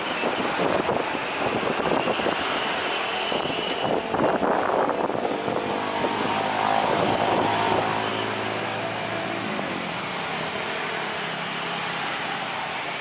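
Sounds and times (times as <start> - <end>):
humming engine whine: 1.9 - 12.3.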